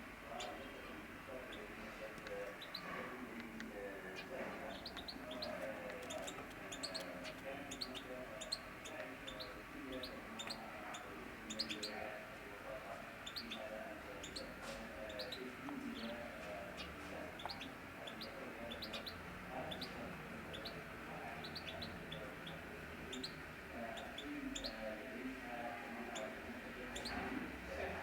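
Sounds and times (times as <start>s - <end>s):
canaries chirping: 0.0s - 28.0s.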